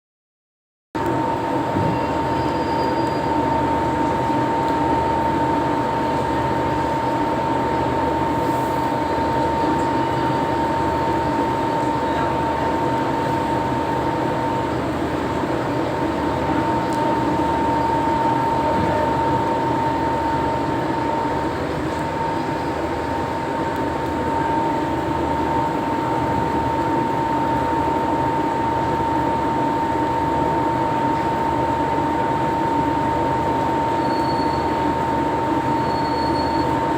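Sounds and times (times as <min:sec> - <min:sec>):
machinery drone with high whine: 0:01.0 - 0:36.9.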